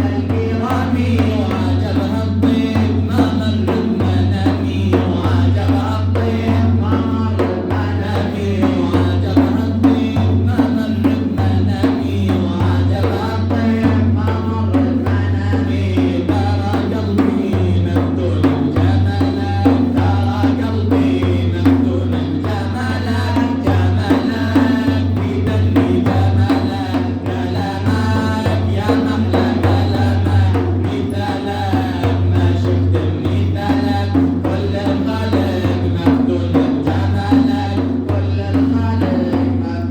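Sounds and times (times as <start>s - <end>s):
steady drumming: 0.0s - 39.9s.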